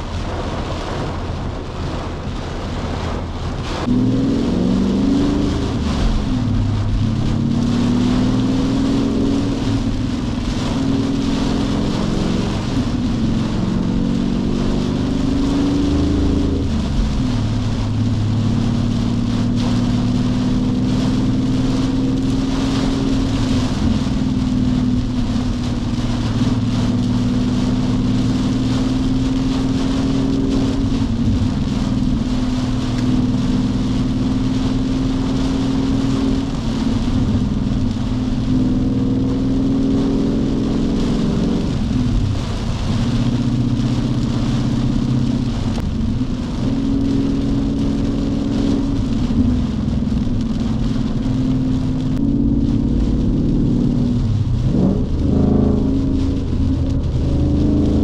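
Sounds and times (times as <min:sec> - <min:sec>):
car engine droning: 0:00.0 - 0:58.0
heavy rain: 0:00.0 - 0:58.0
wet road noise: 0:00.0 - 0:58.0.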